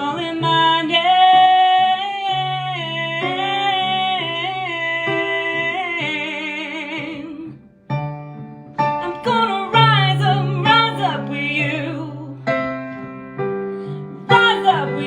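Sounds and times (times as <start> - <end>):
person singing worship song: 0.0 - 7.7, 9.0 - 13.0, 13.9 - 15.0.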